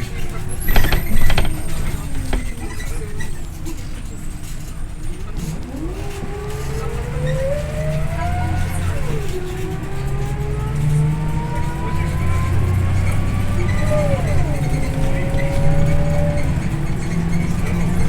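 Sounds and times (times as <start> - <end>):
bus diesel engine rumble: 0.0 - 18.0
rising drivetrain whine: 0.0 - 18.0.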